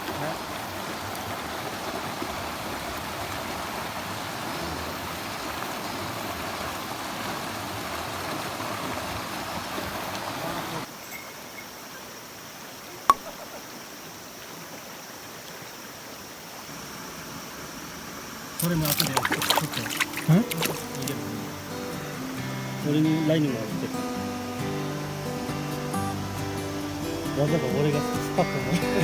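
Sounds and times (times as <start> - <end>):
stream rushing over rocks: 0.0 - 29.0.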